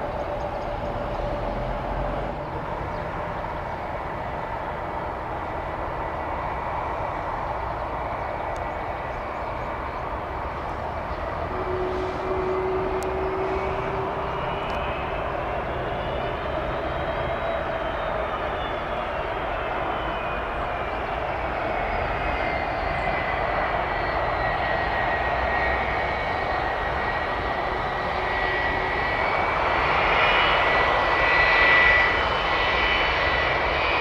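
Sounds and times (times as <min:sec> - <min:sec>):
jet engines rumbling with whine: 0:00.0 - 0:34.0.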